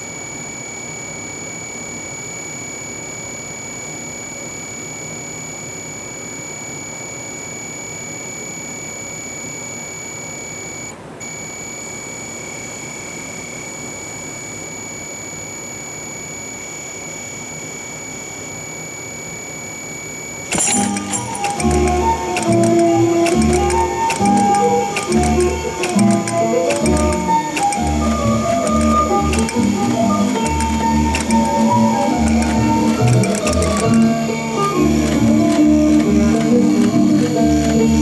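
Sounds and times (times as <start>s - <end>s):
high-pitched electrical whine: 0.0s - 38.0s.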